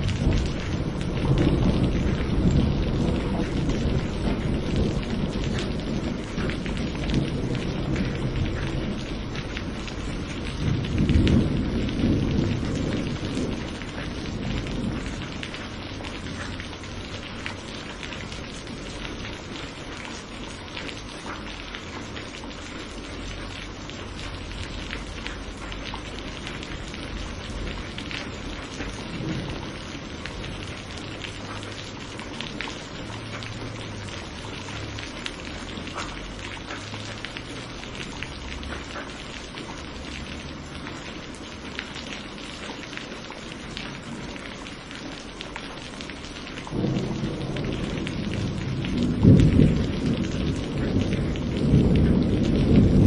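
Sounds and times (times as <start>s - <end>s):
thunder rumble: 0.0s - 20.4s, 21.3s - 41.3s, 46.1s - 53.0s
heavy rain: 0.0s - 53.0s.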